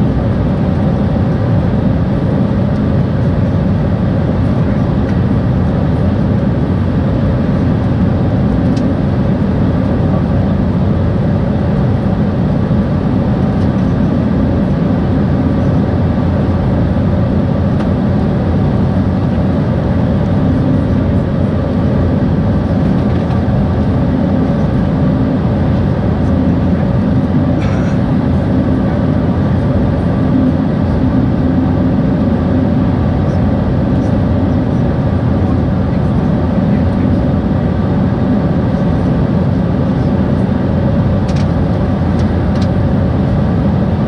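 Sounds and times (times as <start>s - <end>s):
airflow rush in aircraft cabin: 0.0s - 44.0s
jet engine hum: 0.0s - 44.0s.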